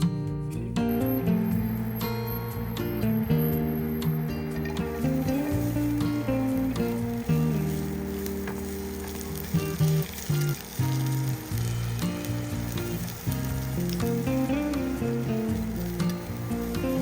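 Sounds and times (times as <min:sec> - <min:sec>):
background music with held notes: 0:00.0 - 0:17.0
food sizzling in hot oil: 0:00.8 - 0:17.0.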